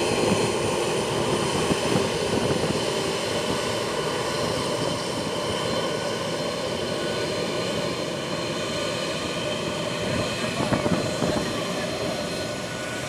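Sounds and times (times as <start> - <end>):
high engine whine: 0.0 - 13.0
jet engines running: 0.0 - 13.0.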